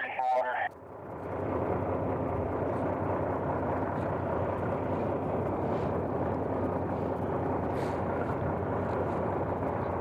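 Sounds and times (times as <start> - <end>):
fire engine pump droning: 0.0 - 10.0.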